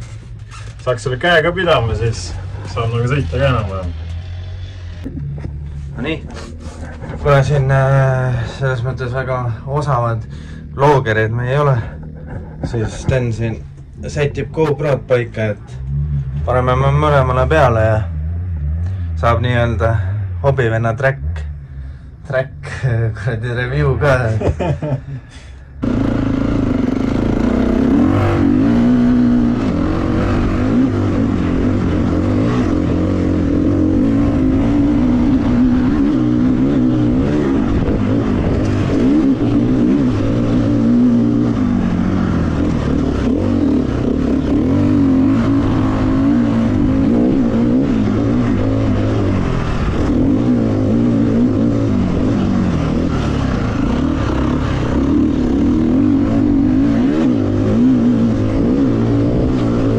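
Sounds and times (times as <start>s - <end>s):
motorcycle engine revving: 0.0s - 23.3s, 25.8s - 59.9s.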